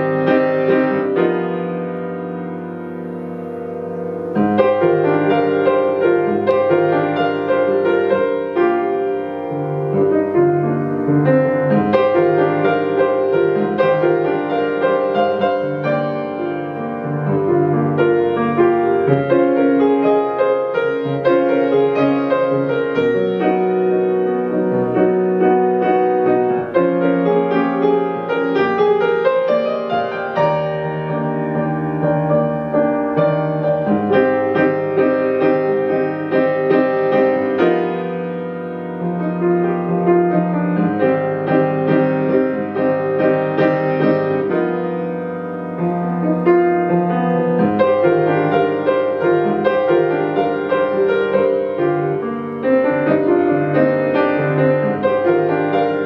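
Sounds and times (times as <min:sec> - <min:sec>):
solo jazz piano: 0:00.0 - 0:56.0.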